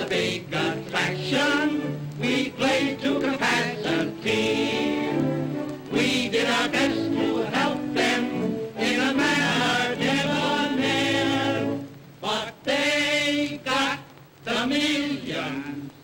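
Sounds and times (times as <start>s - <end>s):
men singing in chorus: 0.0s - 15.9s.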